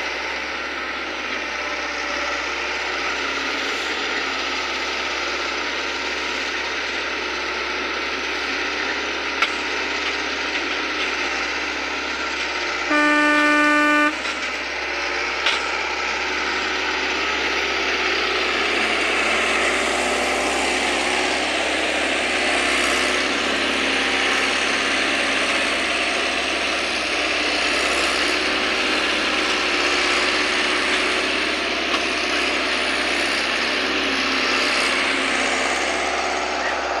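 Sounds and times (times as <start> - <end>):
loader engine running: 0.0 - 37.0.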